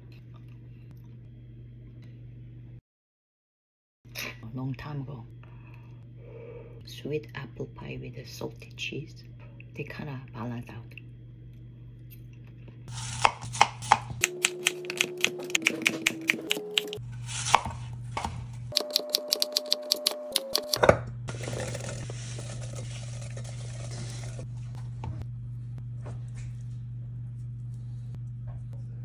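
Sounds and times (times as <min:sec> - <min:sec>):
low hum: 0:04.1 - 0:29.0.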